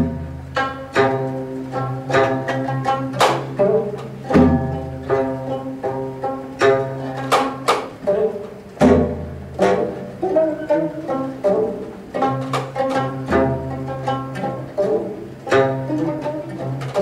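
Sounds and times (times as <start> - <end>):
low bowed tones: 0.0 - 17.0
plucked zither notes: 0.0 - 17.0.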